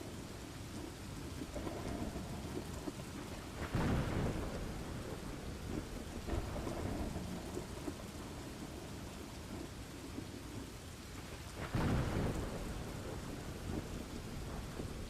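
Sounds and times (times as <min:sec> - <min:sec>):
low rumble of thunder: 0:00.0 - 0:15.0
steady rain falling: 0:00.0 - 0:15.0.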